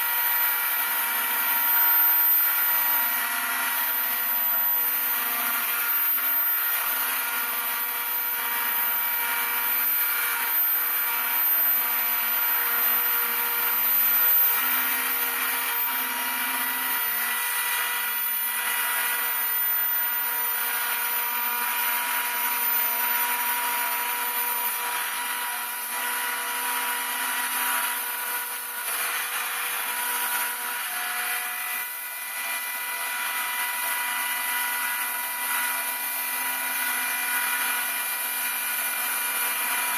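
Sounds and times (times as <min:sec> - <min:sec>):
cnc spindle high whine: 0:00.0 - 0:39.9.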